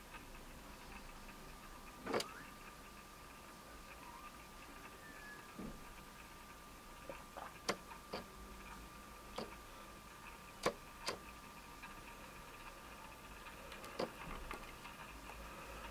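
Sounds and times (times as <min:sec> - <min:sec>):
faint high-pitched whine: 0:00.0 - 0:15.9.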